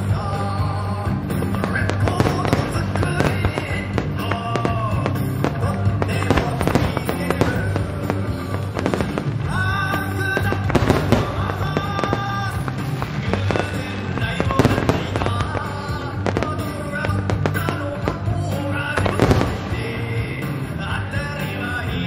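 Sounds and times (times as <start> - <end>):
fireworks bursting and crackling: 0.0 - 22.0
loud music with steady beat: 0.0 - 22.0.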